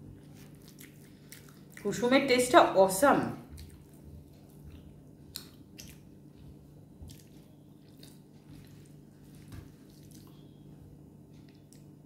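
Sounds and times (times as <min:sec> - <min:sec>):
wet chewing sounds: 0:00.1 - 0:02.0, 0:03.4 - 0:10.7, 0:11.3 - 0:12.0.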